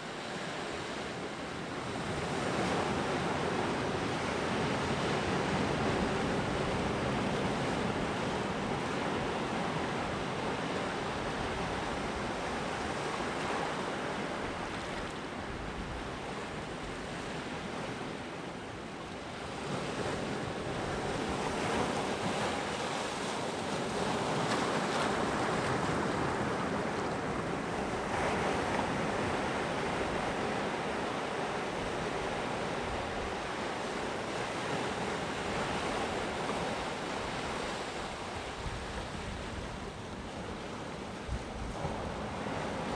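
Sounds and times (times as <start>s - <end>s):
sea surf breaking on shore: 0.0s - 42.9s.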